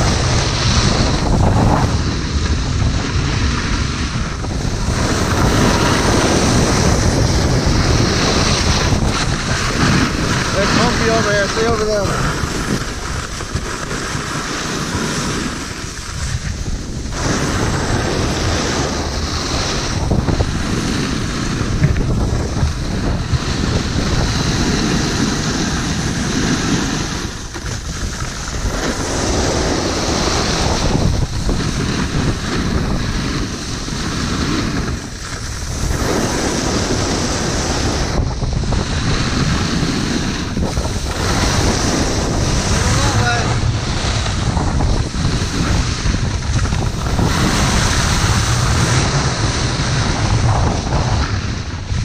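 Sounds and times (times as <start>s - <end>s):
snowboard scraping over snow: 0.0s - 52.0s
wind on microphone: 0.0s - 52.0s.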